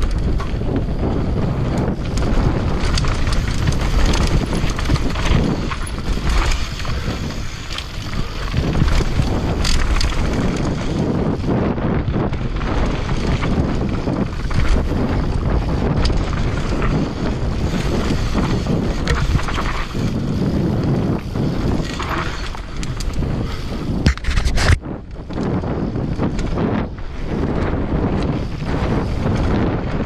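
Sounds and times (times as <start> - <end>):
tyres rolling over dirt and rock: 0.0 - 24.7
bike frame and chain rattling: 0.0 - 30.0
wind rushing over microphone: 0.0 - 30.0.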